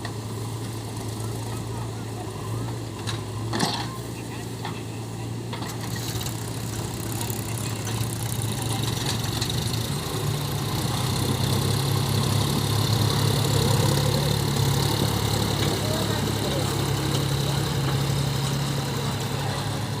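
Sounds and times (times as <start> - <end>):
diesel engine running low: 0.0 - 20.0.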